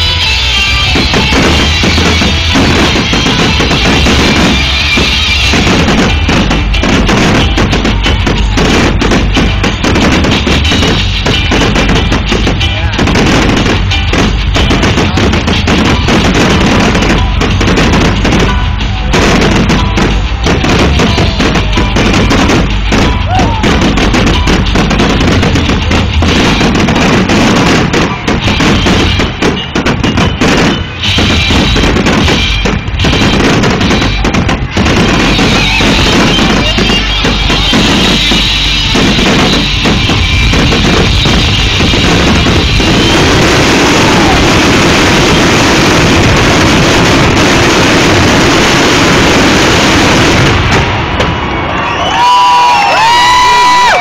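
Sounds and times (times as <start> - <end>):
fireworks booms and crackles: 0.0 - 54.0.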